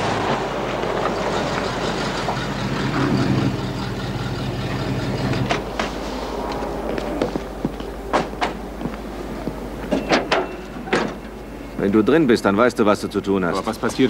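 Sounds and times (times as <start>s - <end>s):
engine running: 0.0s - 11.8s.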